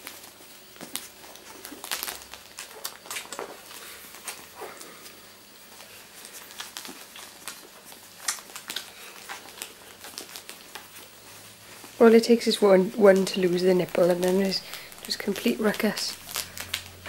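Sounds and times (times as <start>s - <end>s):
rustling on blanket: 0.0s - 17.0s
puppies suckling: 1.2s - 16.8s.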